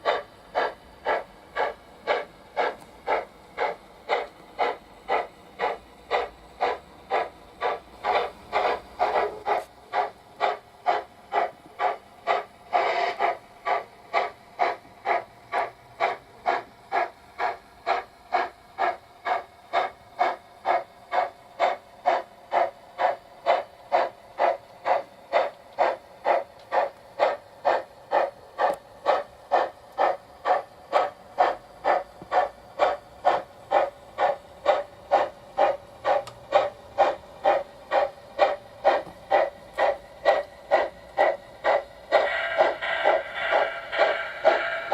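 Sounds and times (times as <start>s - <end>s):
model steam locomotive chuffs: 0.0s - 44.9s
steam hiss: 0.0s - 44.9s.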